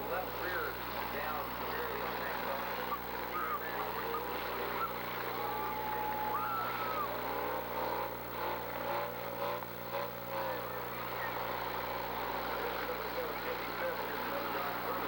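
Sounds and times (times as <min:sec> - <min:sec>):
demolition derby cars running: 0:00.0 - 0:15.0
voices: 0:00.0 - 0:15.0
held horn-like tones: 0:01.4 - 0:15.0.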